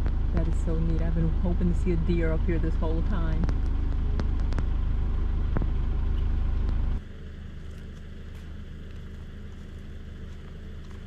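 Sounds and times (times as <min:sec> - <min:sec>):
low hum: 0:00.0 - 0:11.0
road rumble inside car: 0:00.0 - 0:11.0.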